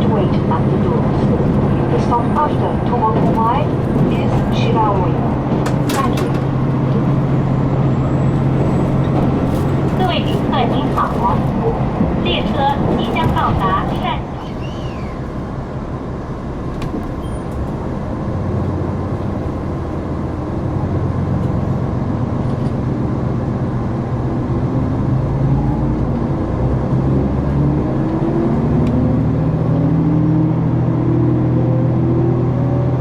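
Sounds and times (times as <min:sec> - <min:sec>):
diesel railcar engine: 0:00.0 - 0:33.0.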